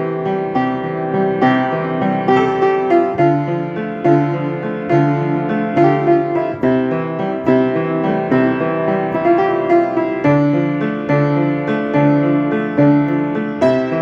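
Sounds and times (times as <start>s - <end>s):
piano playing a riff: 0.0s - 14.0s.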